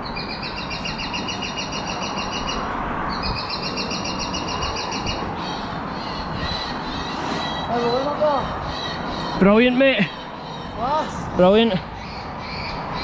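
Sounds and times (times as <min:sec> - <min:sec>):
songbird trilling: 0:00.0 - 0:11.1
steady rushing noise: 0:00.0 - 0:13.0.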